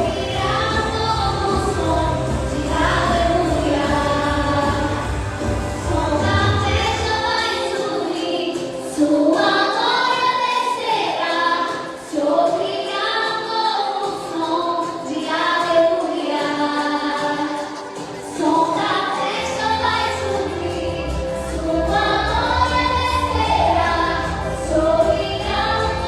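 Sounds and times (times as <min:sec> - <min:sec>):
vocal group singing gospel: 0:00.0 - 0:10.4, 0:11.0 - 0:26.0.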